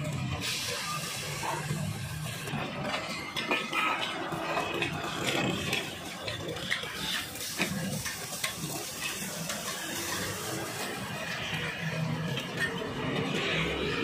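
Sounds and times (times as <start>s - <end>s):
food sizzling in oil: 0.1s - 12.8s
metal spatula scraping griddle: 0.4s - 14.0s.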